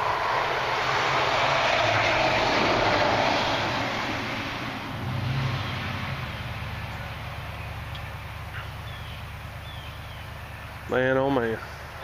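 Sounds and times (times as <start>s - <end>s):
low hum: 0.0s - 10.9s
vehicle passing on road: 0.0s - 12.0s.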